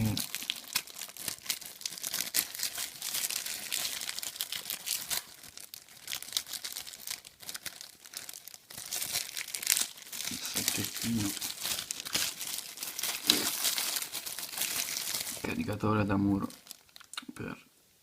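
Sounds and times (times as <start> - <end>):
plastic packaging crinkling: 0.0 - 17.2.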